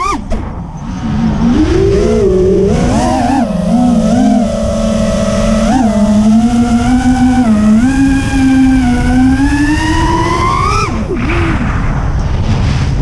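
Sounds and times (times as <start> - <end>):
drone propellers whining: 0.0 - 12.6
wind rumble on microphone: 0.0 - 13.0.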